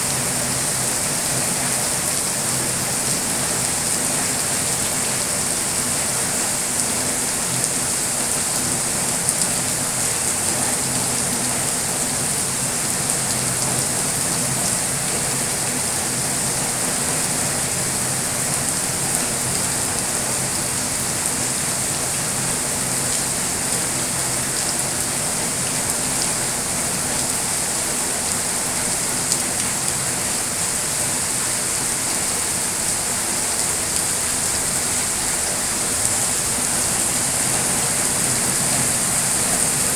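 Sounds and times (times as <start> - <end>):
steady rain: 0.0 - 39.9
raindrops ticking: 0.1 - 30.4, 32.2 - 39.9.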